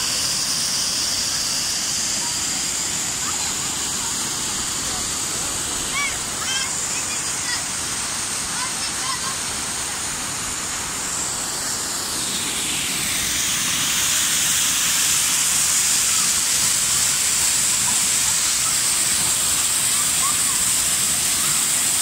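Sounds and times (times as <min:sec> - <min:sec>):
water rushing down stone cascade: 0:00.0 - 0:22.0.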